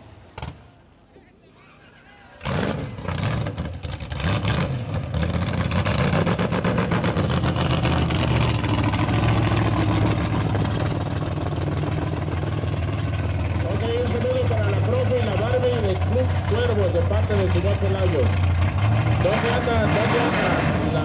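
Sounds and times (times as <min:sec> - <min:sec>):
car engine running at low revs: 0:02.4 - 0:21.0.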